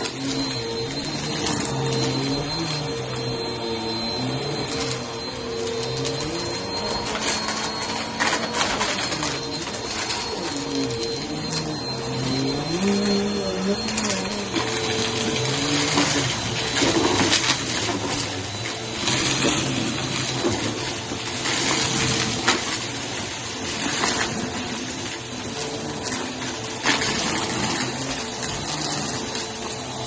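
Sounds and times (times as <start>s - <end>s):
cereal crackling in vacuum: 0.0s - 30.0s
vacuum cleaner running over carpet: 0.0s - 30.0s.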